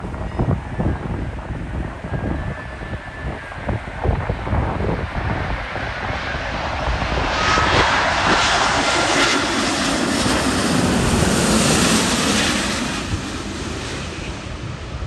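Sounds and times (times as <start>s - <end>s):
faint jet engine whine: 0.0s - 15.0s
jet airliner rushing past: 0.0s - 15.0s.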